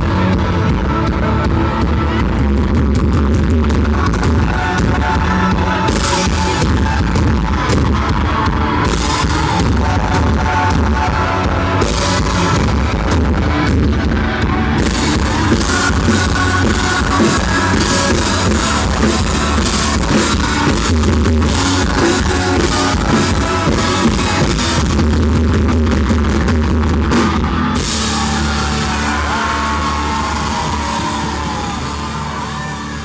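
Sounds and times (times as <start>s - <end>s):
country rock band playing: 0.0s - 33.0s.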